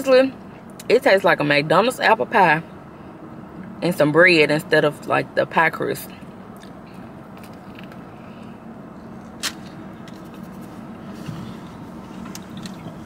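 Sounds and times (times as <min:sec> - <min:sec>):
car idling hum inside cabin: 0:00.0 - 0:13.0.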